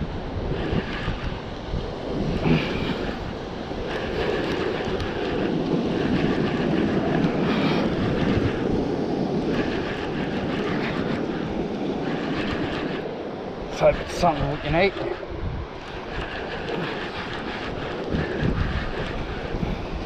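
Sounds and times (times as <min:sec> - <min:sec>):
surf washing on rocks: 0:00.0 - 0:20.0
wind buffeting microphone: 0:00.0 - 0:20.0.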